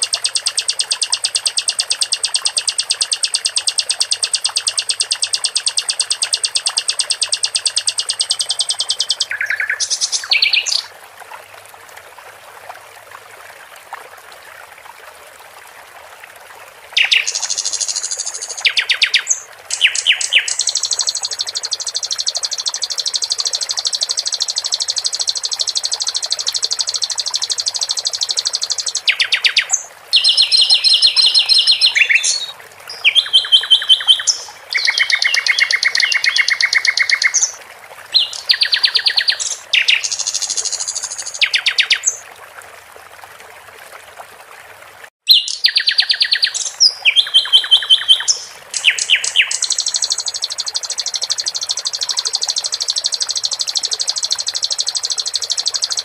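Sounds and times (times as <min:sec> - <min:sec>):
nightingale singing trills: 0:00.0 - 0:10.9, 0:17.0 - 0:42.2, 0:45.3 - 0:56.0
running water babbling: 0:00.0 - 0:56.0.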